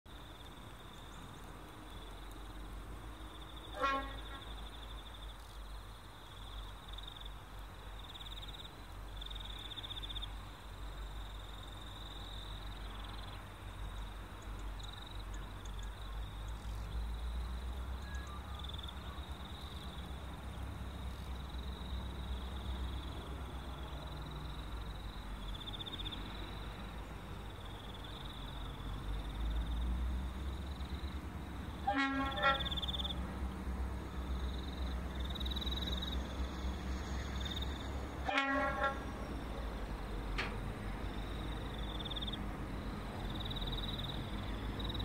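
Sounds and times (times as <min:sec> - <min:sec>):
insects chirping: 0:00.1 - 0:45.0.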